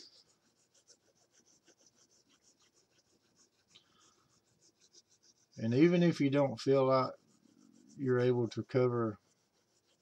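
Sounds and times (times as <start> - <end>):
pencil scratching on paper: 0.0 - 10.0.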